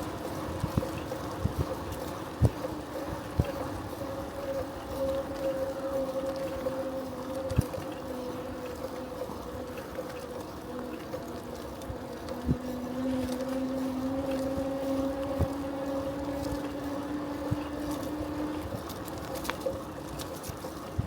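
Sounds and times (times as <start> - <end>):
bicycle riding hum and whine: 0.0 - 21.0.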